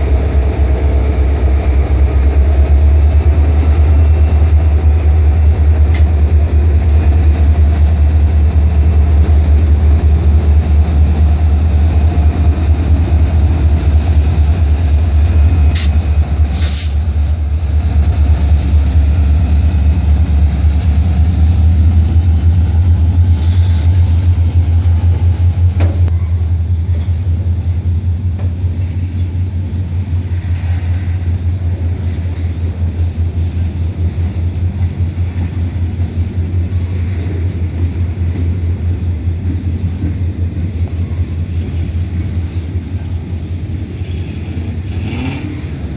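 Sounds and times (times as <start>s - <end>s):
diesel locomotive deep throb: 0.0s - 45.9s.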